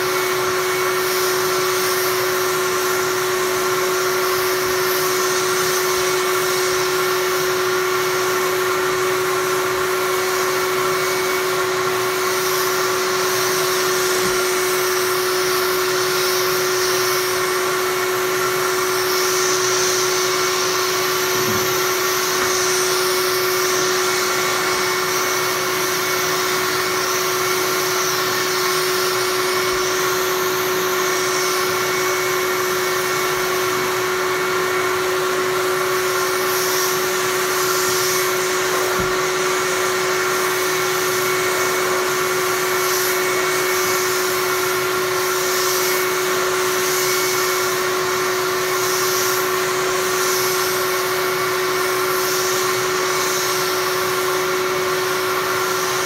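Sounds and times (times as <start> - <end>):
rush of air through hose: 0.0 - 56.0
vacuum humming: 0.0 - 56.0.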